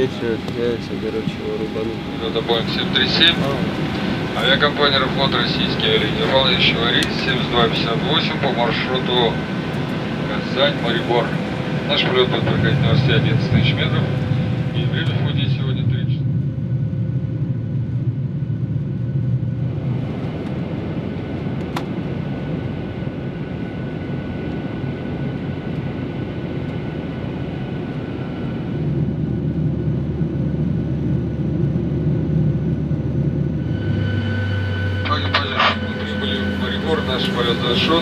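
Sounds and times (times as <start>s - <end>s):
jet engine cabin rumble: 0.0s - 38.0s.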